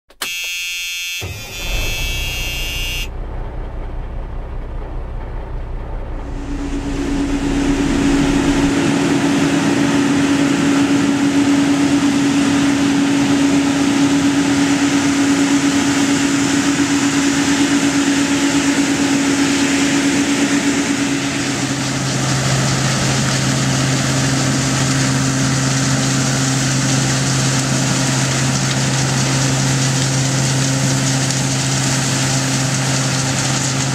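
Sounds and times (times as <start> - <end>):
deep hum: 1.2 - 30.7
harvest machinery rumble: 1.2 - 33.9
loud steady rushing noise: 1.6 - 33.4.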